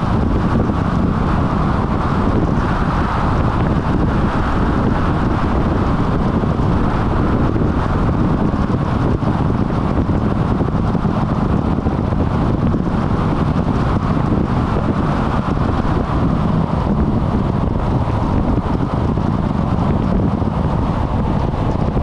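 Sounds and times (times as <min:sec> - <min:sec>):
vehicle road and tyre noise: 0:00.0 - 0:22.0
wind on microphone: 0:00.0 - 0:22.0.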